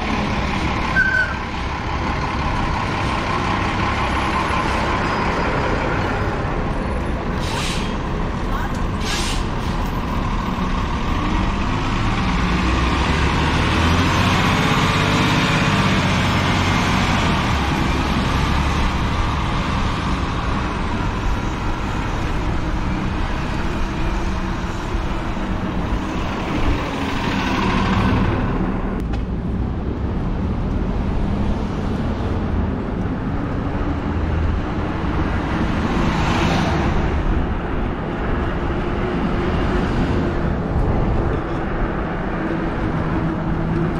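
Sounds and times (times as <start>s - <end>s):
road traffic: 0.0s - 43.9s.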